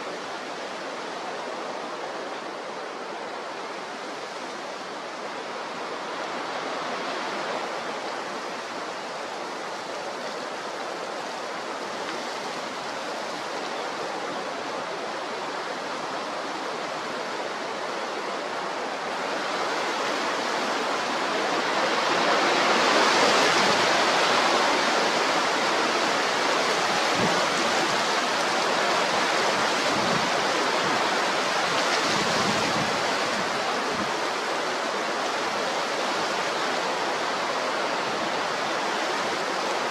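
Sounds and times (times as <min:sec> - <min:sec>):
strong gale blowing: 0:00.0 - 0:39.9.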